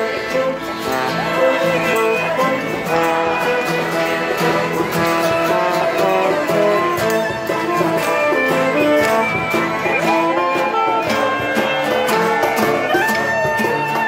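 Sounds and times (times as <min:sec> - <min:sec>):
acoustic guitars strummed: 0:00.0 - 0:14.0
cello playing: 0:00.0 - 0:14.0.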